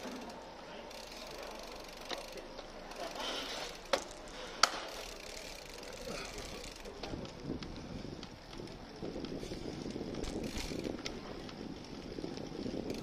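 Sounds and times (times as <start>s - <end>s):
bicycle freewheel ticking: 0.0s - 13.0s.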